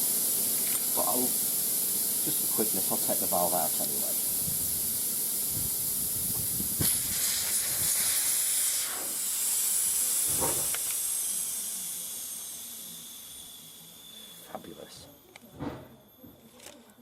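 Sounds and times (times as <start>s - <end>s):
air hissing out of tyre: 0.0s - 14.6s.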